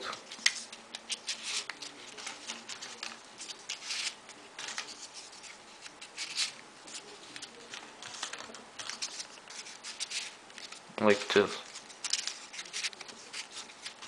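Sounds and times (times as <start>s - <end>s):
paper rustling and scraping: 0.0s - 10.8s, 11.6s - 14.0s.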